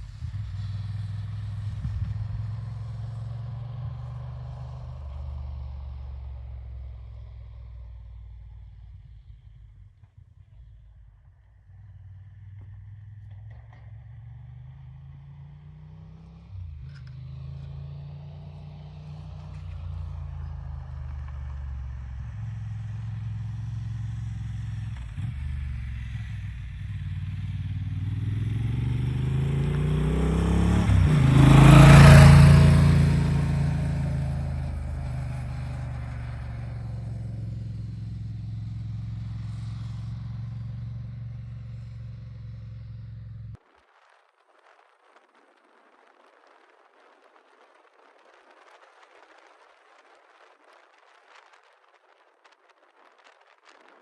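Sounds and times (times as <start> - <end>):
motorcycle passing by: 0.0 - 43.6.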